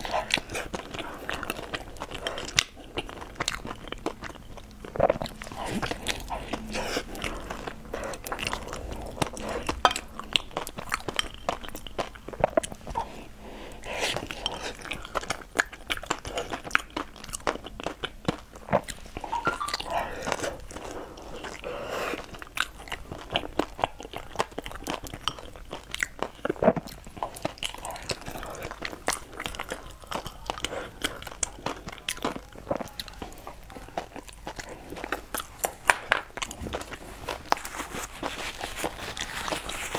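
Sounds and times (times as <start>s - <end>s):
wet chewing and mouth smacks: 0.0s - 39.9s.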